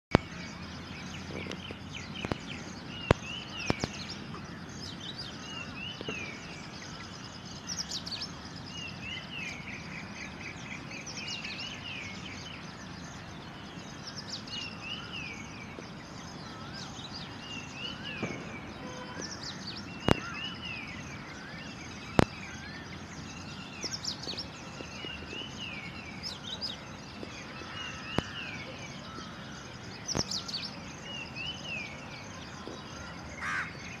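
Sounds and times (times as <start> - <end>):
small birds chirping: 0.1 - 34.0.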